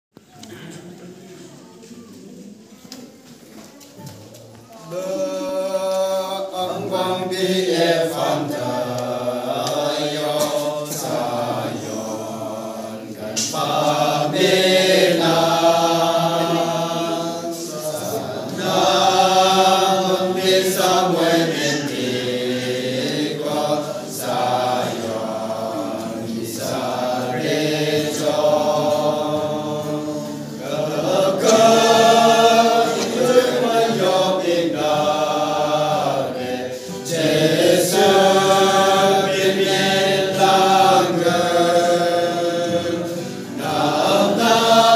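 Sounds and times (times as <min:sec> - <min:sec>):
group singing a hymn: 0:04.7 - 0:44.9.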